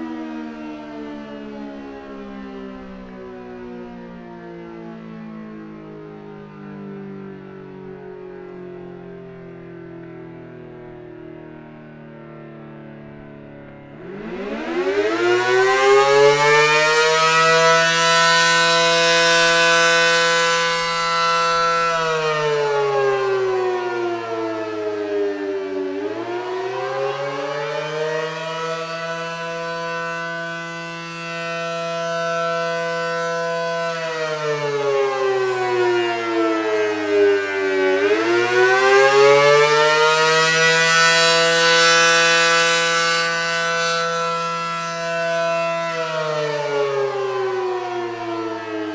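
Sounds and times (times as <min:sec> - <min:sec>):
electromechanical siren wailing: 0:00.0 - 0:48.9.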